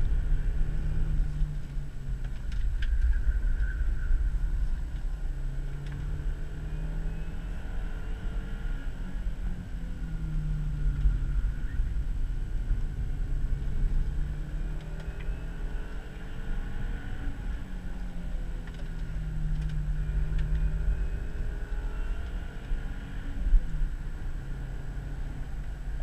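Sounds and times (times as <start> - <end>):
car engine revving: 0.0 - 26.0
road and tyre noise: 0.0 - 26.0.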